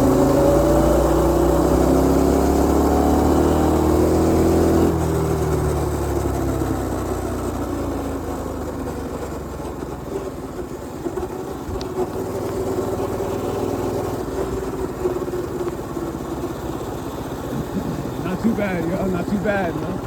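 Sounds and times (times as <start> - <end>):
mini bike engine running: 0.0 - 20.0.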